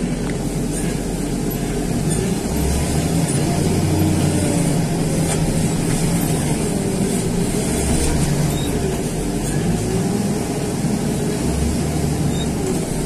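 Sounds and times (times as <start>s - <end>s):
diesel engine under load: 0.0s - 13.0s.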